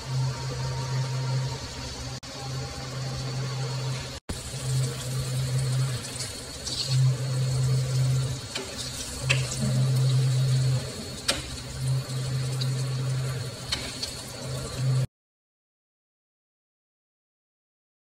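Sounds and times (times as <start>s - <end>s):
low hum: 0.0s - 15.1s.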